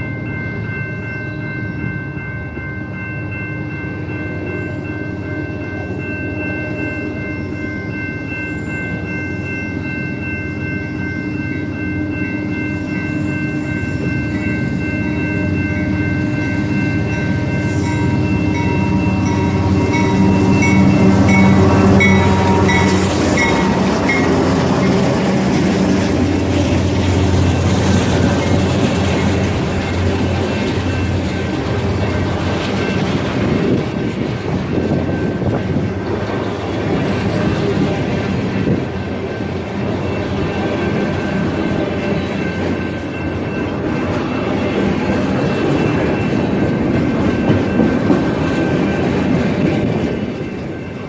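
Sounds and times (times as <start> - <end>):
crossing bell ringing: 0.0 - 51.0
freight train rumble: 0.0 - 51.0
rail cars rolling over crossing: 0.0 - 51.0.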